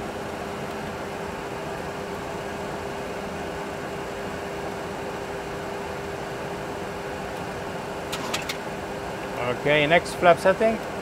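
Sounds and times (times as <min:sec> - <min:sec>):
constant mid-pitched hum: 0:00.0 - 0:11.0.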